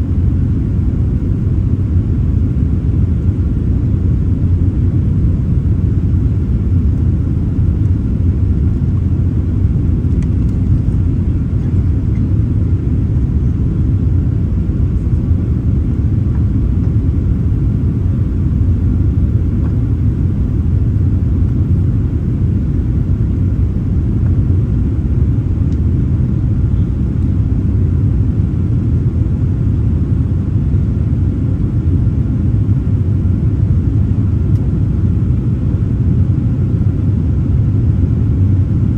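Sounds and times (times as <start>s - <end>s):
airliner takeoff rumble: 0.0s - 38.9s.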